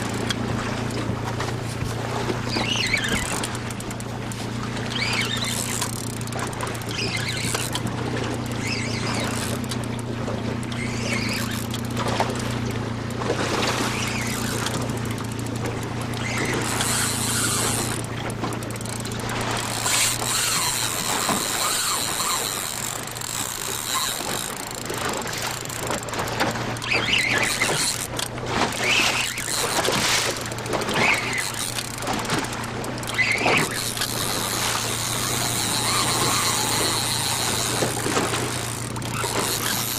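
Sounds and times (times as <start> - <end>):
boat engine idling: 0.0 - 39.9
fishing reel drag whining: 2.2 - 12.9, 13.6 - 39.9.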